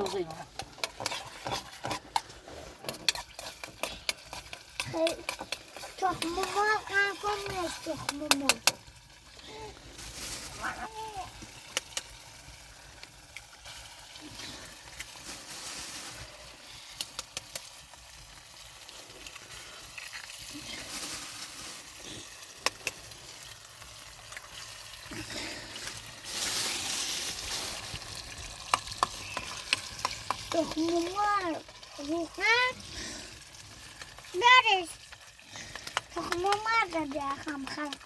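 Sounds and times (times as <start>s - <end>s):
oil sizzling in a pan: 0.0s - 38.0s.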